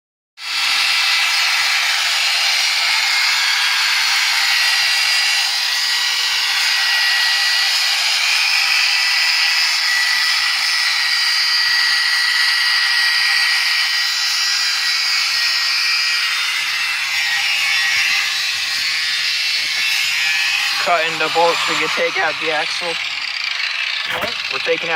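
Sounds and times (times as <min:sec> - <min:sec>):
angle grinder cutting metal: 0:00.4 - 0:24.9.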